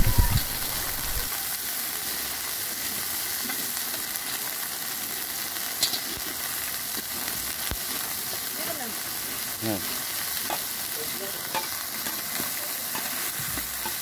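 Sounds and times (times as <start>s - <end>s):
spice paste sizzling in oil: 0.1s - 14.0s.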